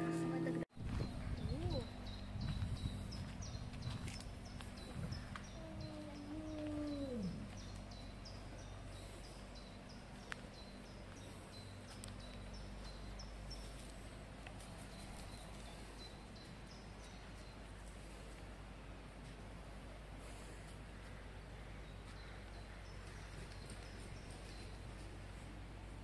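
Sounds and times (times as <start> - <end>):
quiet outdoor ambience: 0.0 - 26.0.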